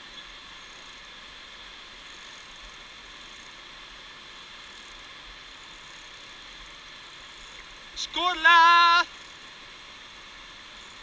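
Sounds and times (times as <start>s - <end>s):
rushing mountain stream: 0.0s - 11.0s.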